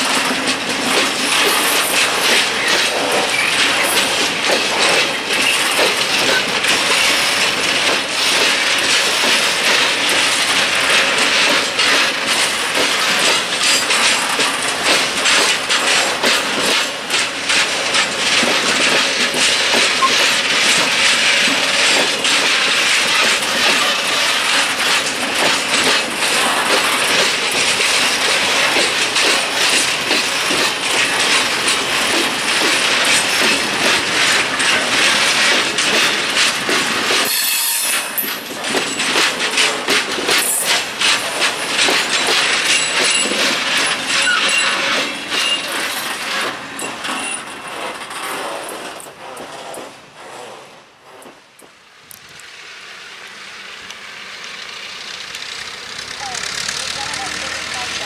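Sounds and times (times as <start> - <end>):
freight train wheels clacking: 0.0 - 58.0.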